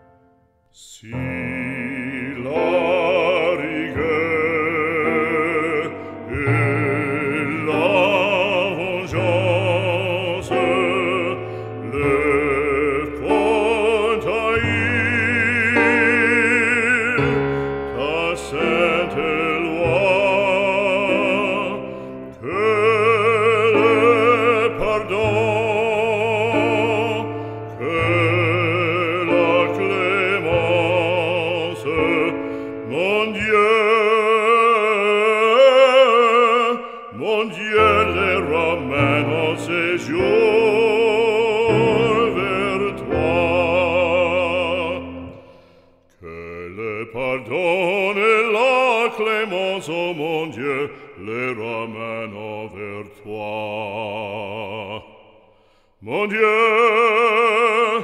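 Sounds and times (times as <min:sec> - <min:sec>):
operatic singing: 0:00.0 - 0:58.0.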